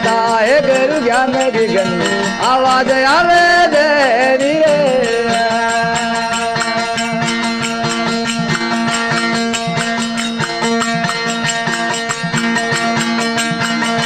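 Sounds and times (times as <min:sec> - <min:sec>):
quick percussion beat: 0:00.0 - 0:14.0
stringed instrument drone and melody: 0:00.0 - 0:14.0.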